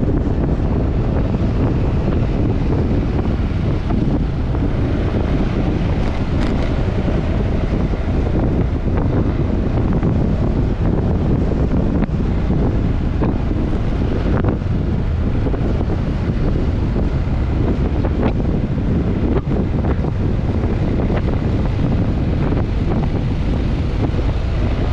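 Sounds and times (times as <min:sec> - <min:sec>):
scooter engine and road drone: 0:00.0 - 0:24.9
wind rushing over microphone: 0:00.0 - 0:24.9.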